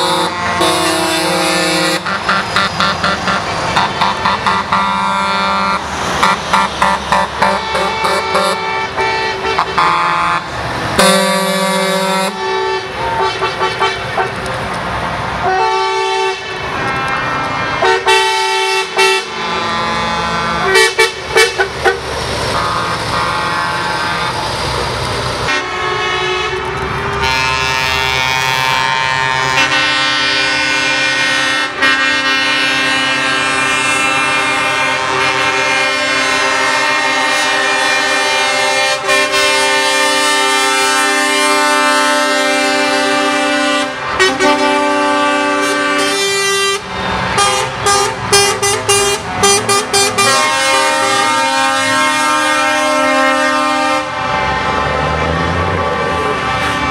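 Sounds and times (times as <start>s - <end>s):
truck air horns: 0.0s - 14.7s, 15.4s - 56.9s
truck engines: 0.0s - 56.9s.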